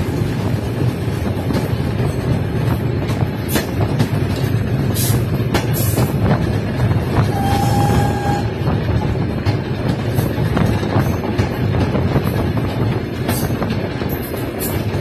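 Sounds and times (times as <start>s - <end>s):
train wagon rumbling on track: 0.0s - 15.0s
wheels clicking over rail joints: 0.0s - 15.0s.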